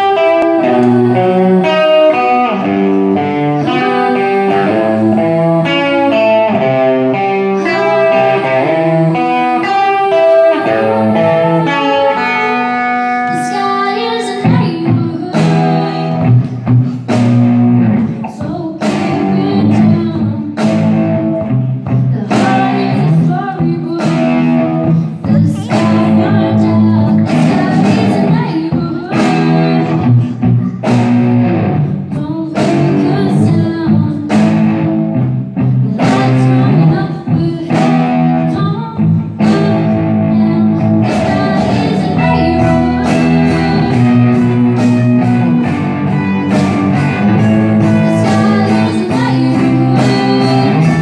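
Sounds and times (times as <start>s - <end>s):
electric guitars and bass: 0.0s - 51.0s.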